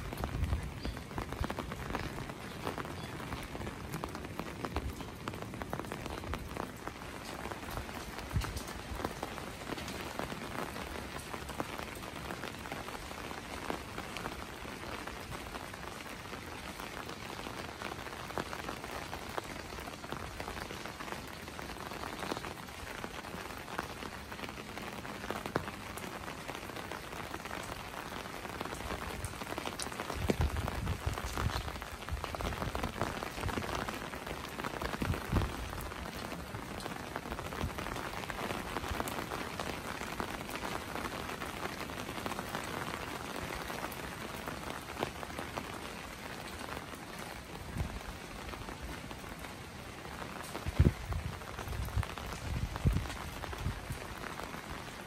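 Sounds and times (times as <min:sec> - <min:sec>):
rain falling on wet streets: 0:00.0 - 0:55.0.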